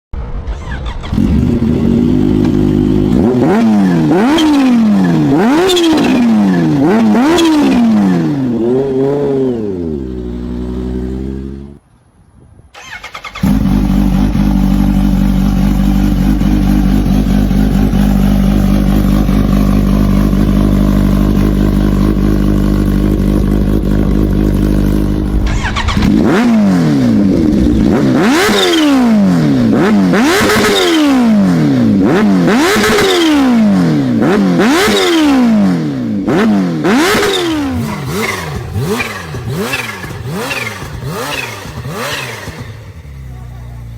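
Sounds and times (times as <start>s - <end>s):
motorcycle engine revving: 0.2s - 11.8s, 12.8s - 43.9s.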